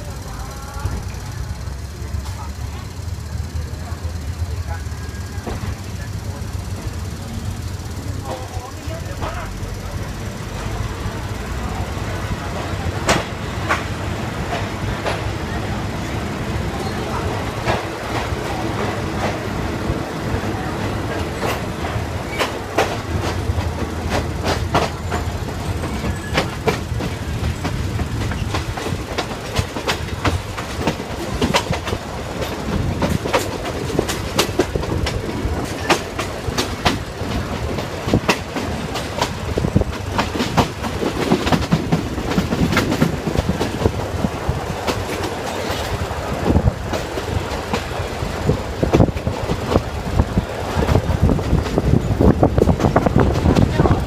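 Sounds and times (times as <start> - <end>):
train rumble: 0.0 - 54.0
wheels knocking over rail joints: 0.0 - 54.0.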